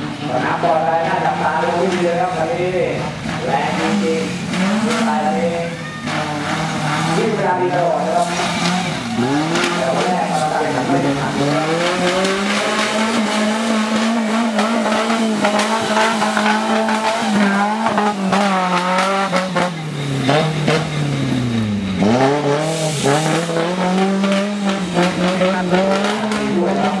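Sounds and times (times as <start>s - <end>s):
truck engine revving high: 0.0s - 27.0s.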